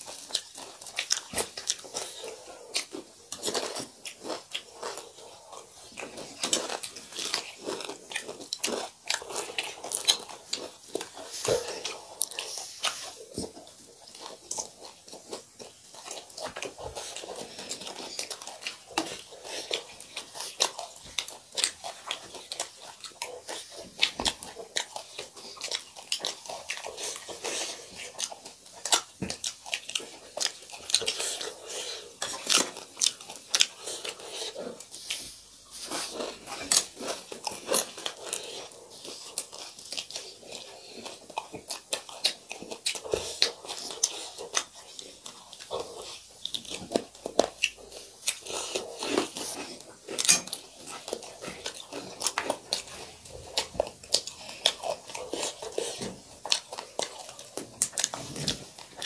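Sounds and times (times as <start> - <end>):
person chewing and crunching: 0.0 - 59.0.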